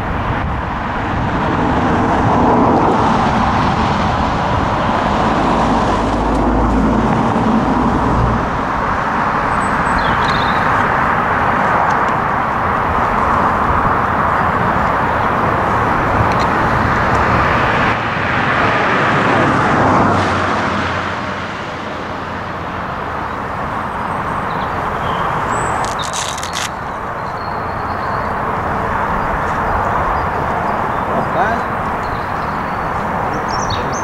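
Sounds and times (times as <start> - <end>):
train rumbling along track: 0.0 - 10.0, 10.6 - 34.0.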